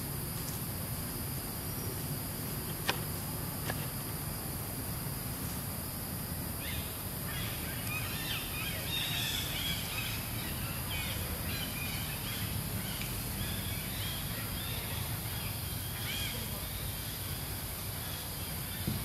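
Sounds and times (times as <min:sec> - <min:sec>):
high insect hum: 0:00.0 - 0:19.0.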